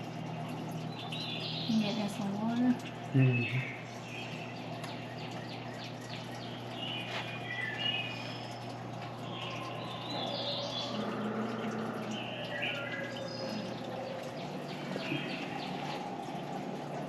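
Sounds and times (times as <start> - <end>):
songbirds chirping: 0.0 - 17.0
steady low hum: 0.0 - 17.0.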